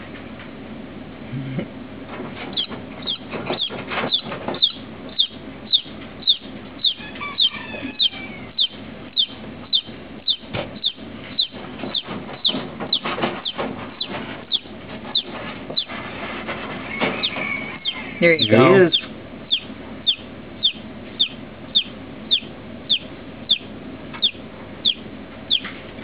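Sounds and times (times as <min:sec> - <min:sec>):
chick peeping: 0:02.4 - 0:26.0.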